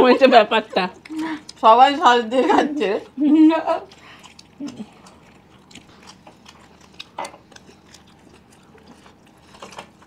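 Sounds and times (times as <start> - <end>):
people chewing: 0.0 - 10.0.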